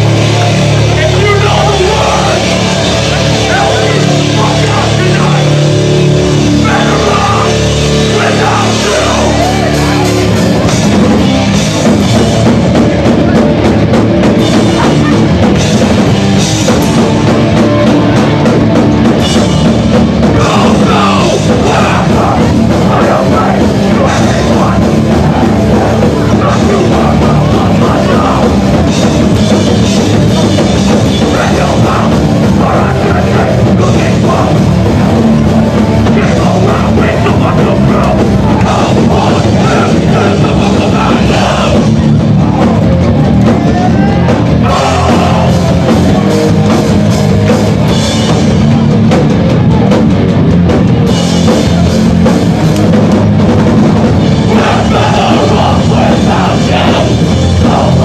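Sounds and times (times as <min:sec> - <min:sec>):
bass guitar: 0:00.0 - 0:58.0
distorted guitars: 0:00.0 - 0:58.0
drum kit: 0:00.0 - 0:58.0.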